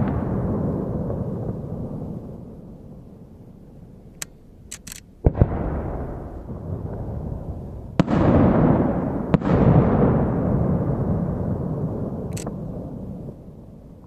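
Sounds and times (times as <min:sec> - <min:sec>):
firework booms: 0:00.0 - 0:03.3, 0:05.2 - 0:14.0.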